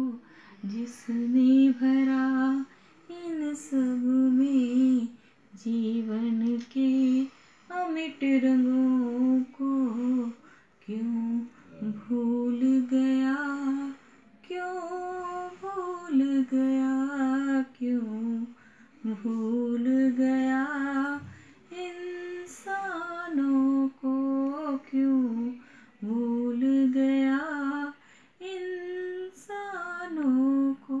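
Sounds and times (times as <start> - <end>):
woman singing solo: 0.0 - 31.0.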